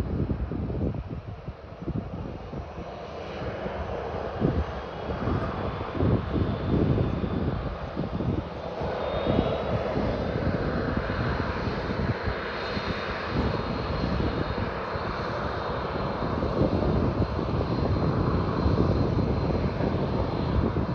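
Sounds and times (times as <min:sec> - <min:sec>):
jet engine roar: 0:00.0 - 0:20.9.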